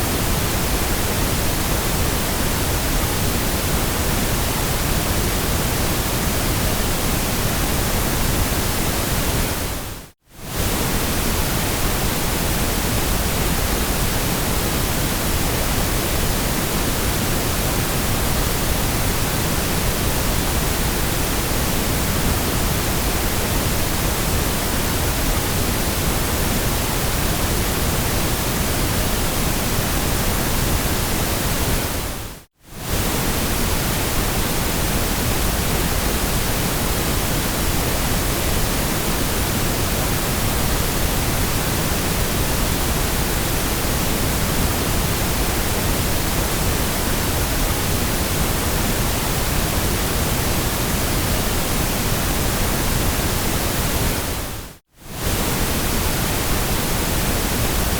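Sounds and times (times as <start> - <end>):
white noise: 0.0 - 57.9.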